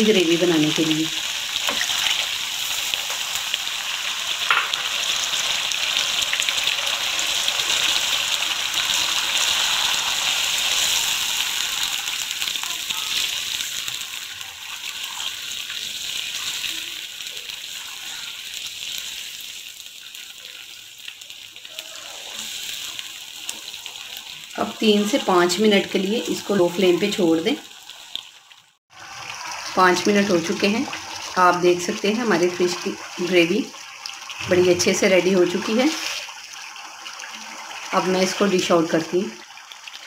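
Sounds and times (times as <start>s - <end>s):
fish sizzling in hot oil: 0.0s - 40.0s
gravy bubbling in pan: 0.8s - 40.0s.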